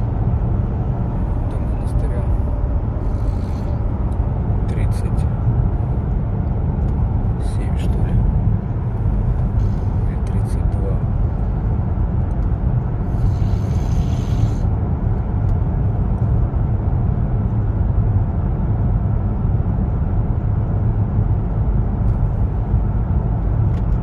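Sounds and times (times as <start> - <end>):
car driving low rumble: 0.0 - 24.0.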